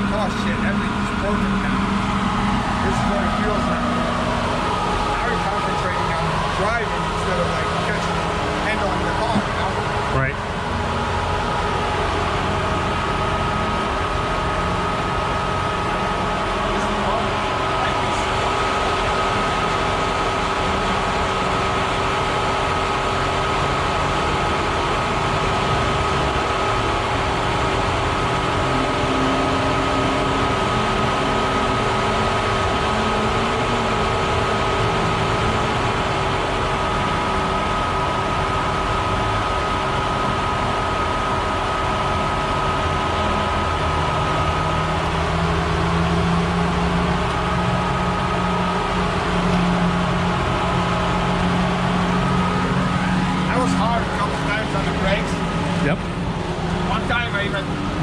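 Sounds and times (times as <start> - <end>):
cooling fans whirring: 0.0 - 58.0
low hum: 0.0 - 58.0.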